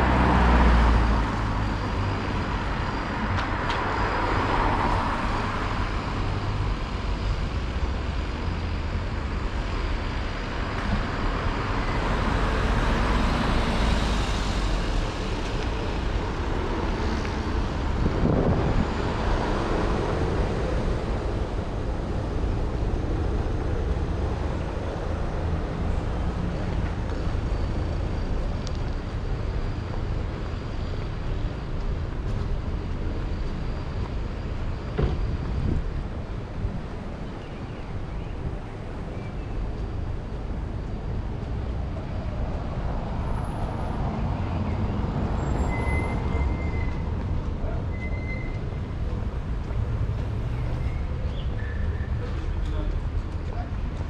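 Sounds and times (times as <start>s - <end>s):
low rumble of road noise: 0.0s - 54.0s
passing traffic: 0.0s - 54.0s.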